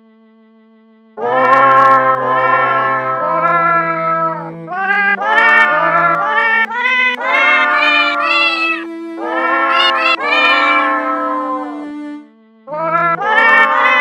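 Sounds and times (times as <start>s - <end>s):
held low accompanying notes: 1.2s - 14.0s
pitch-shifted cat meow melody: 1.2s - 14.0s.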